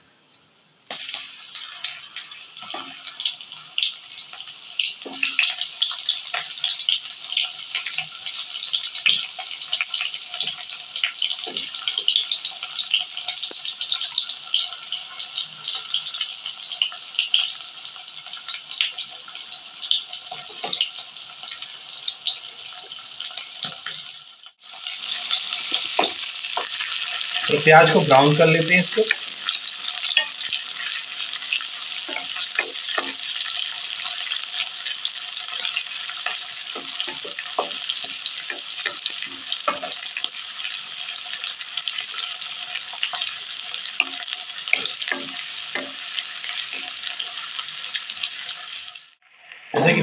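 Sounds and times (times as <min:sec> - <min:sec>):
onions sizzling in hot oil: 0:00.9 - 0:49.8.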